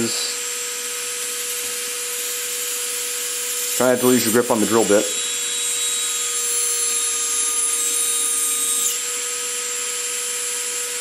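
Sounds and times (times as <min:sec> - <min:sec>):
drill bit grinding metal: 0:00.0 - 0:11.0
electric motor whine: 0:00.0 - 0:11.0.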